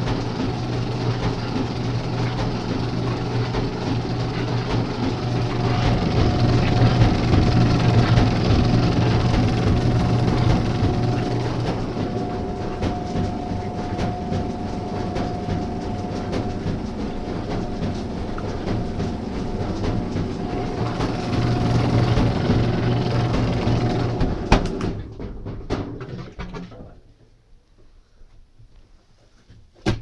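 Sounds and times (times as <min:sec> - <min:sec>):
washing machine motor hum: 0:00.0 - 0:26.8
clicking and clattering: 0:00.0 - 0:27.0.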